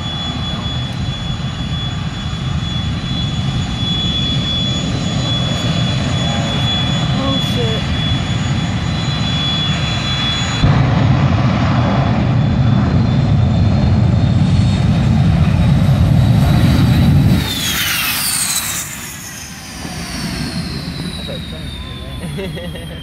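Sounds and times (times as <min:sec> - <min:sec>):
high whines falling in pitch: 0:00.0 - 0:14.8, 0:15.5 - 0:23.0
jet engine roaring: 0:00.0 - 0:23.0.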